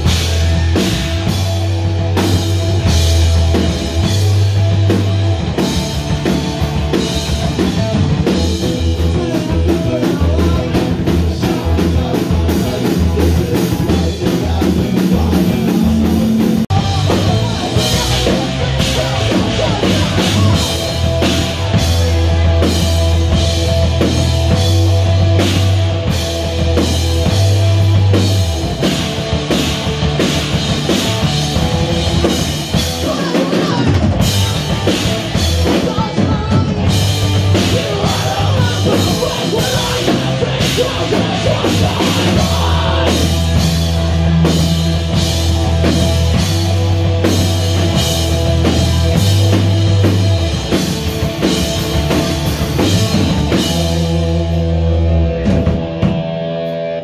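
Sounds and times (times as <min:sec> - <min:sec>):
bass guitar: 0:00.0 - 0:57.0
drum kit pounding: 0:00.0 - 0:57.0
electric guitars: 0:00.0 - 0:57.0.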